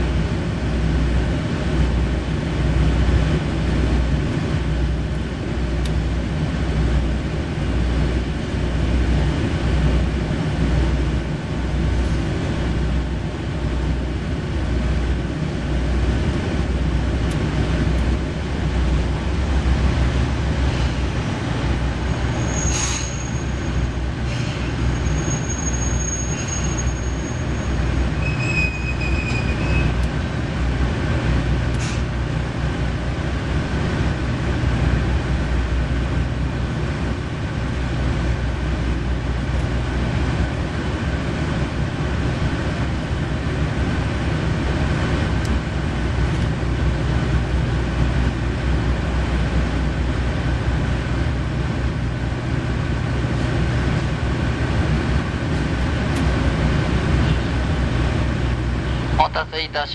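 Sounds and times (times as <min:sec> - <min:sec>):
diesel engine idling: 0:00.0 - 0:25.6, 0:30.0 - 0:59.9.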